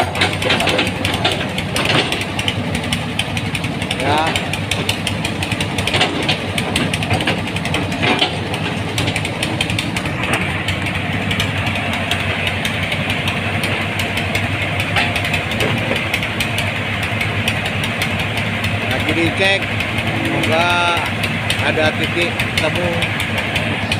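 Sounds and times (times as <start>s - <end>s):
excavator diesel engine running: 0.0s - 23.9s
fast ticking clatter: 0.0s - 23.9s
sharp knocks: 0.0s - 23.9s.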